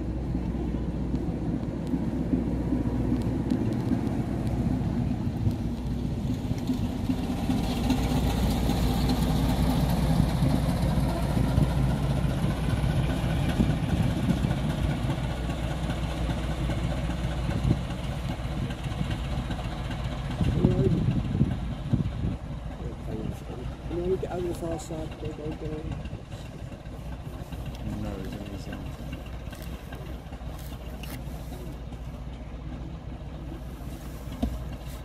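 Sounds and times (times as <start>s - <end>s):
diesel locomotive passing: 0.0s - 35.0s.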